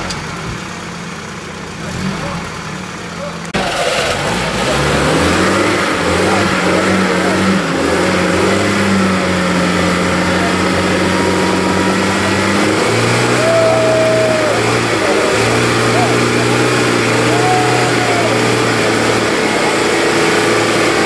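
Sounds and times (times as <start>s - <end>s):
off-road vehicle engine under load: 0.0s - 21.0s.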